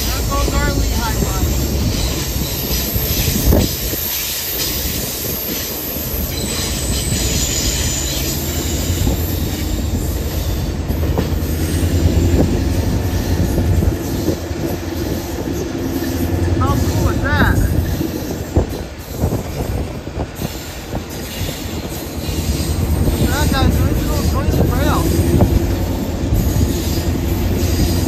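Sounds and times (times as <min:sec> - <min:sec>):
train rumbling: 0:00.0 - 0:28.0
wheel clacks on rail joints: 0:00.0 - 0:28.0.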